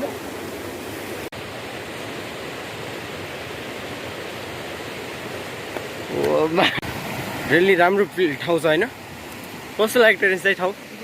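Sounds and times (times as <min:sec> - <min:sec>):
river water flowing: 0:00.0 - 0:11.0
wind: 0:00.0 - 0:11.0.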